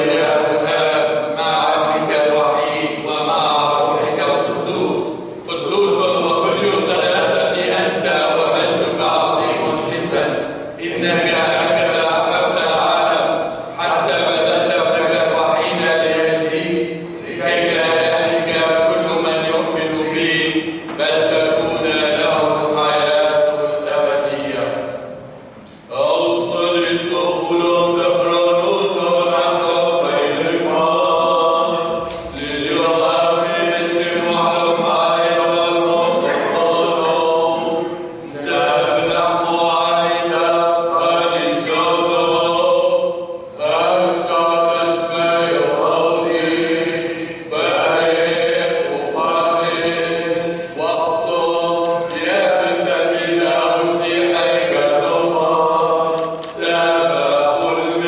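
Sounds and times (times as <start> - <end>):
voices singing liturgical chant: 0.0 - 24.8, 25.9 - 58.0.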